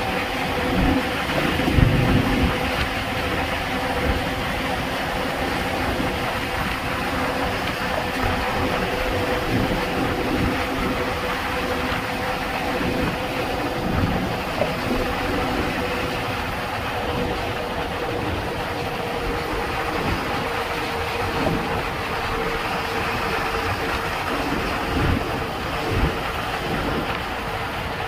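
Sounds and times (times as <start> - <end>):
vehicle driving at speed: 0.0 - 28.0.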